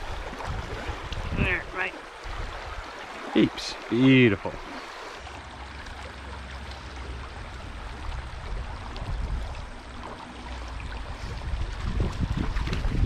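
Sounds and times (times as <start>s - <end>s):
creek running over gravel: 0.0s - 13.0s.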